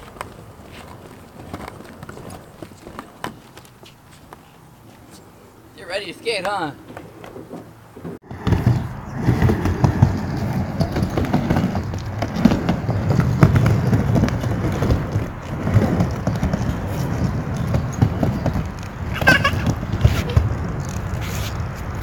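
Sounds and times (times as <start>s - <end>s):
skateboard wheels rolling on plywood: 0.0s - 22.0s.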